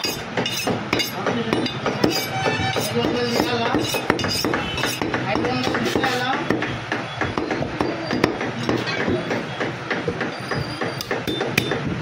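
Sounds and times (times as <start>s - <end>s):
knife chopping on wooden block: 0.0s - 12.0s.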